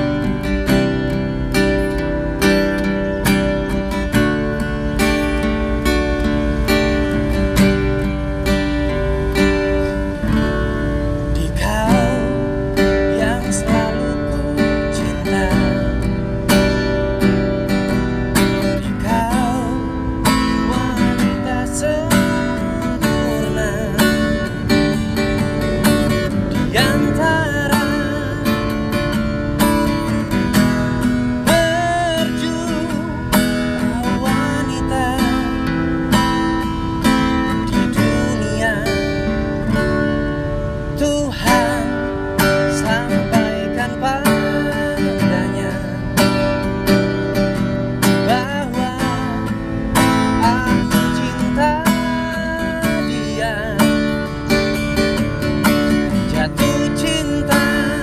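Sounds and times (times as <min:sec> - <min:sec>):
man singing: 0:00.0 - 0:05.5, 0:10.1 - 0:40.2, 0:40.8 - 0:58.0
acoustic guitar strumming: 0:00.0 - 0:58.0.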